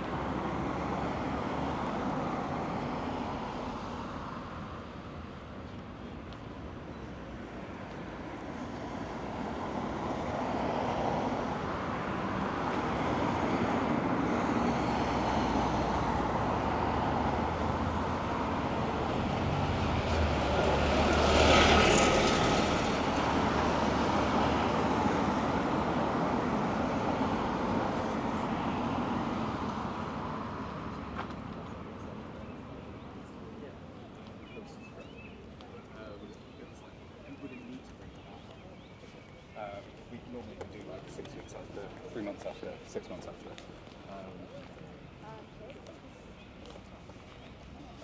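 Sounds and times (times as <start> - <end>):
road traffic passing: 0.0 - 48.0.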